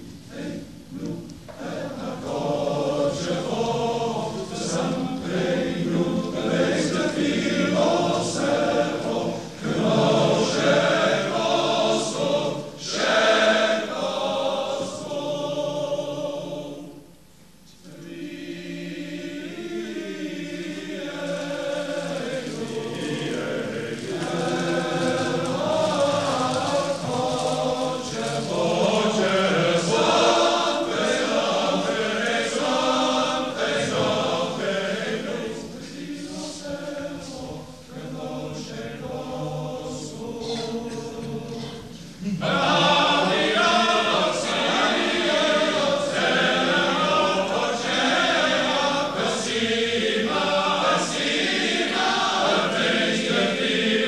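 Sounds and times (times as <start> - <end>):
male voice choir singing: 0.0 - 17.0, 17.8 - 54.0.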